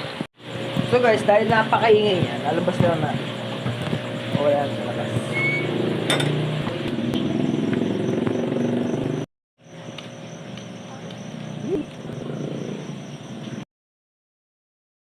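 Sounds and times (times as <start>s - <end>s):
insect shrill pulsing buzz: 0.4s - 13.6s.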